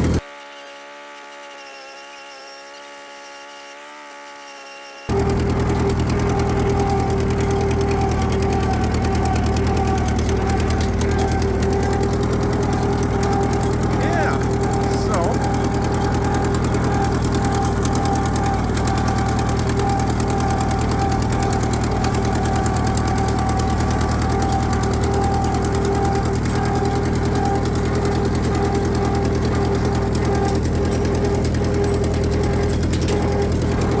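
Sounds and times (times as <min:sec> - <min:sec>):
tractor engine running: 0:00.0 - 0:00.2, 0:05.1 - 0:34.0.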